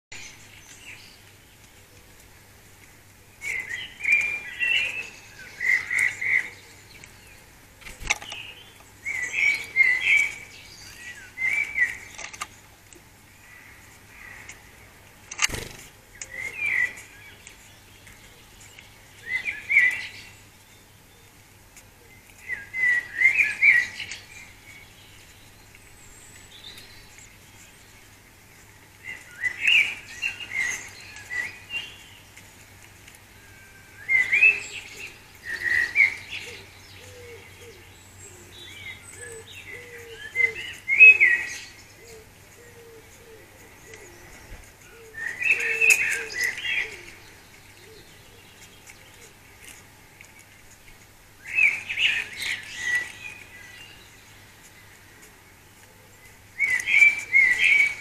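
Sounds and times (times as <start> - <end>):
songbird singing: 0.1 - 58.0.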